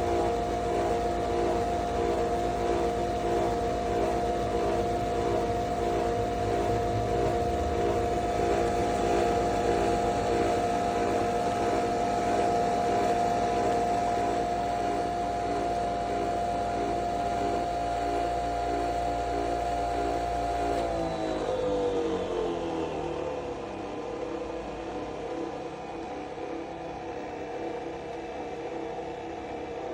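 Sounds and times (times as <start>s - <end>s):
coffee machine whirring hum: 0.0s - 29.9s.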